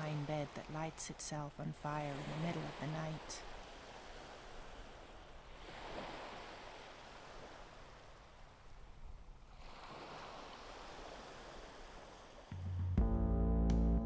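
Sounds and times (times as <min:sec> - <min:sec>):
faint ocean waves washing in: 0:00.0 - 0:12.7.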